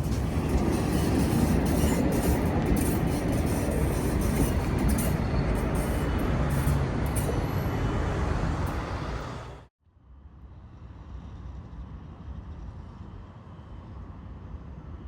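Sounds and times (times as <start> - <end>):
tram running rumble: 0.0 - 15.0.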